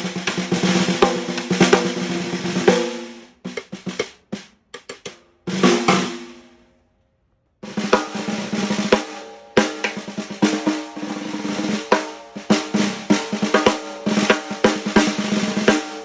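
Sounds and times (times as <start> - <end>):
snare drum played with sticks: 0.0 - 6.5, 7.6 - 16.0.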